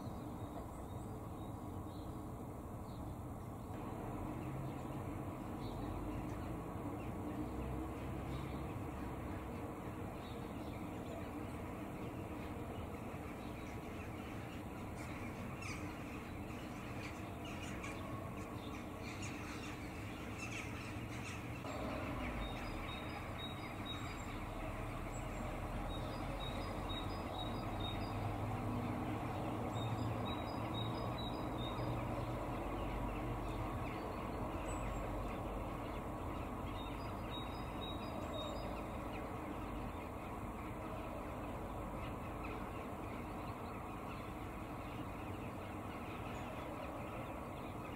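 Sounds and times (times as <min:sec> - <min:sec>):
outdoor background hiss: 0:00.0 - 0:47.9.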